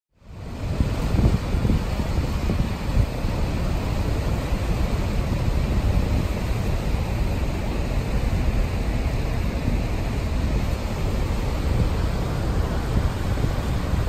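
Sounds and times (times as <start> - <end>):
roar of rushing water: 0.1 - 14.0
wind rumbling on microphone: 0.2 - 14.0.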